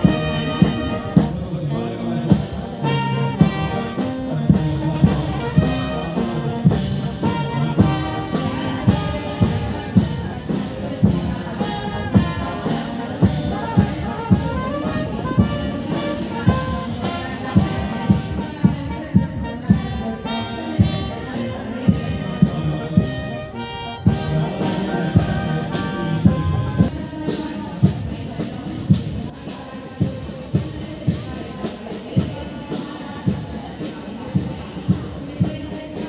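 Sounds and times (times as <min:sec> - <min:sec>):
brass band playing a march: 0:00.0 - 0:29.4
steady drum beat: 0:00.0 - 0:36.0.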